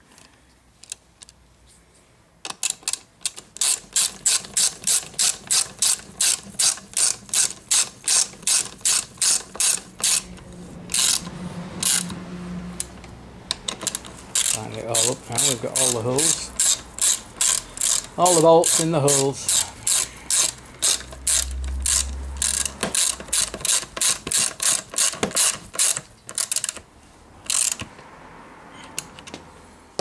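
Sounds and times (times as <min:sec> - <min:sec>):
ratchet wrench clicking: 0:02.5 - 0:12.2, 0:12.8 - 0:26.8, 0:27.4 - 0:27.9.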